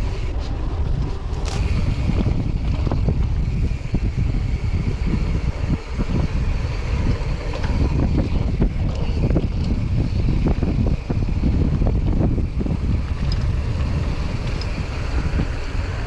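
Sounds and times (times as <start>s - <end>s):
wind buffeting microphone: 0.0s - 16.0s
bike knocks and rattles: 0.1s - 16.0s.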